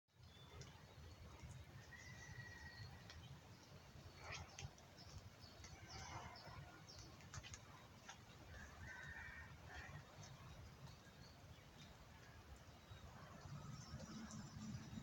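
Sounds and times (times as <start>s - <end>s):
faint birds chirping: 0.1s - 15.0s
wind rumble on microphone: 0.2s - 15.0s.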